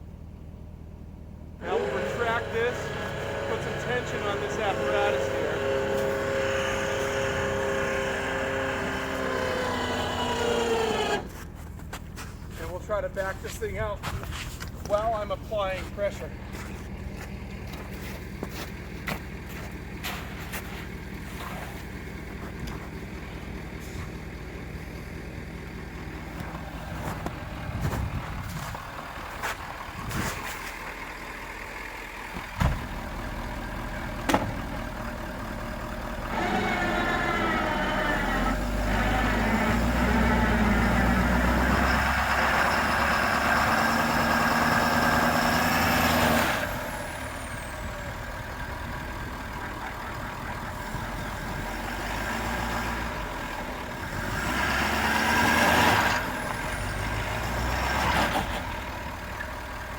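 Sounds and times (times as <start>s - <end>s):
truck engine idling and revving: 0.0s - 59.9s.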